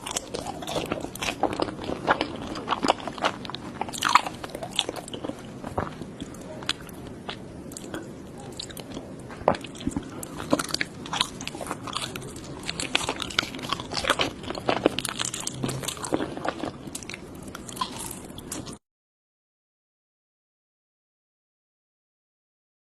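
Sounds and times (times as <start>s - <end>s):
crunchy chewing: 0.0s - 18.8s.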